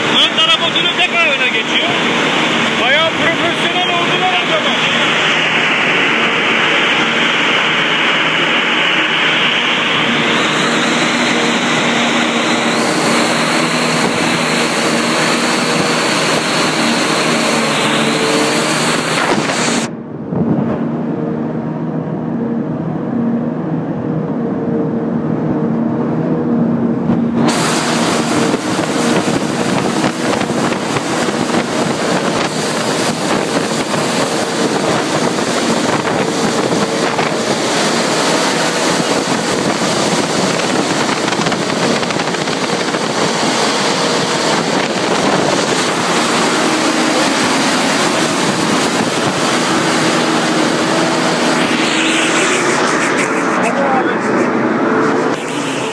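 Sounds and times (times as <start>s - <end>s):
dense mechanical noise: 0.0s - 55.9s
farm machinery engine hum: 0.0s - 55.9s.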